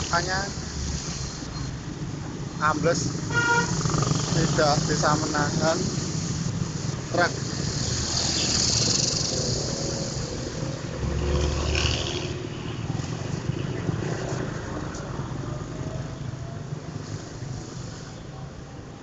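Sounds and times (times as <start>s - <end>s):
street traffic passing: 0.0s - 19.0s.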